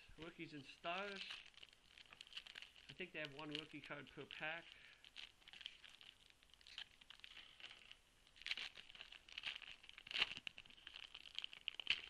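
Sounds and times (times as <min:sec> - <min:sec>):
foil wrapper tearing and crinkling: 0:00.2 - 0:12.0.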